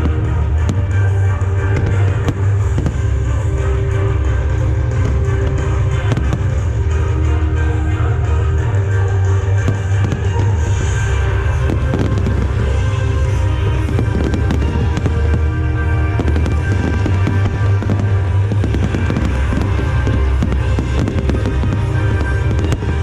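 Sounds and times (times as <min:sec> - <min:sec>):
fireworks banging: 0:00.0 - 0:23.0
loud music with heavy bass: 0:00.0 - 0:23.0.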